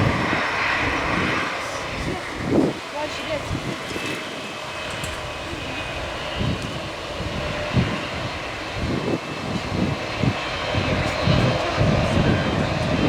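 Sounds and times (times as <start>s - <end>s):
aircraft engine rushing hiss: 0.0s - 13.0s
faint engine whine: 0.0s - 13.0s.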